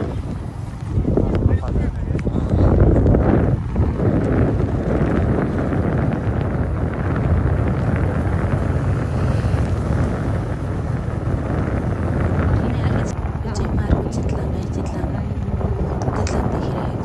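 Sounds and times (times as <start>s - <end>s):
motorcycle engine: 0.0s - 13.3s, 14.0s - 17.0s
road noise: 0.0s - 17.0s
wind rushing over microphone: 0.0s - 17.0s.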